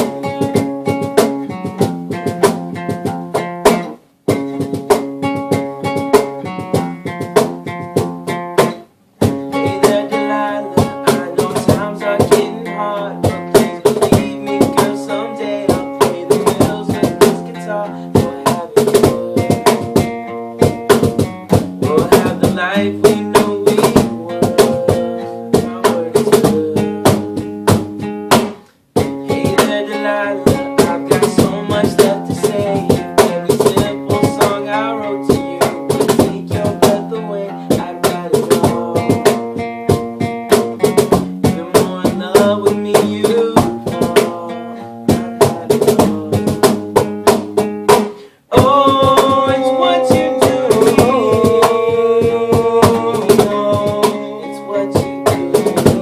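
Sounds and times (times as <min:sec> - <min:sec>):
drum beat: 0:00.0 - 0:56.0
guitar chords: 0:00.0 - 0:56.0.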